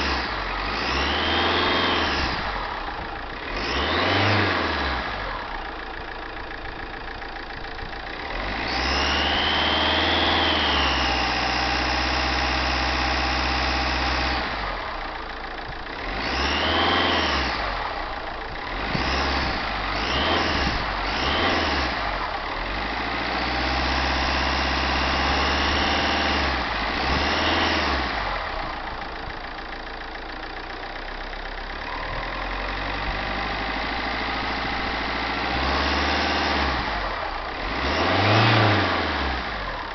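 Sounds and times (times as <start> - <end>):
car engine revving: 0.0 - 7.3, 8.1 - 15.1, 15.9 - 29.1, 31.9 - 39.9.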